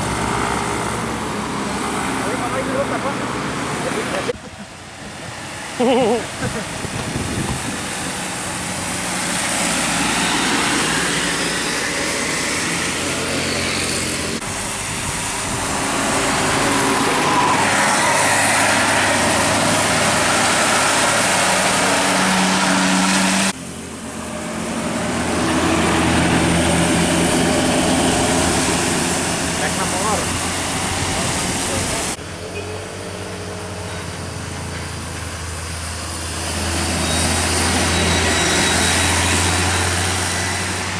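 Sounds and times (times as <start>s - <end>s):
traffic engine hum: 0.0s - 40.9s
tyres hissing on wet road: 0.0s - 40.9s.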